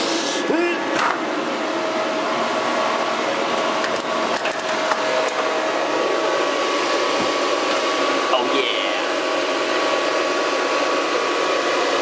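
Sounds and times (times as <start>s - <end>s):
computer cooling fans whirring: 0.0s - 12.0s.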